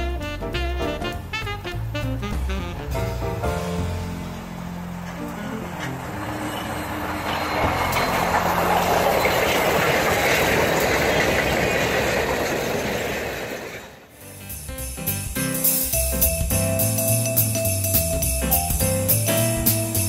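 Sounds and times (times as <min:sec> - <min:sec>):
steam train rumbling past: 0:00.0 - 0:20.0.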